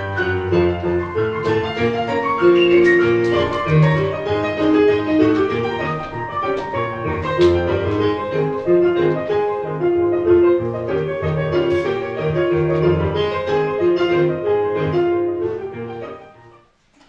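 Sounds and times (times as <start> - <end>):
piano or keyboard melody: 0.0 - 16.8.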